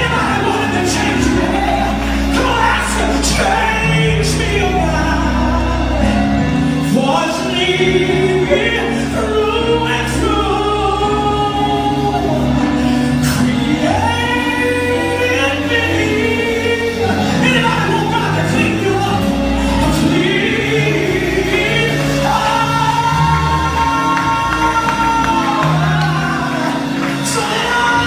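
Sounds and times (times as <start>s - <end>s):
keyboard and guitar accompaniment: 0.0s - 28.0s.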